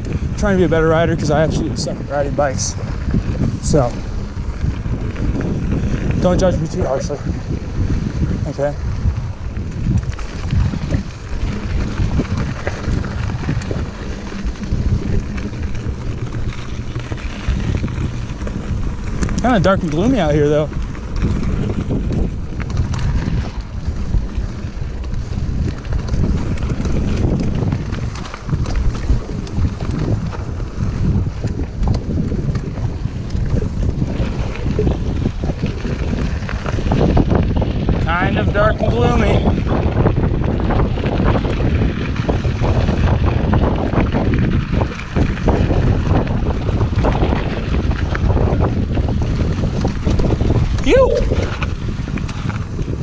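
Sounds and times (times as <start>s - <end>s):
bike clicks and rattles: 0.0s - 53.0s
wind buffeting microphone: 0.0s - 53.0s.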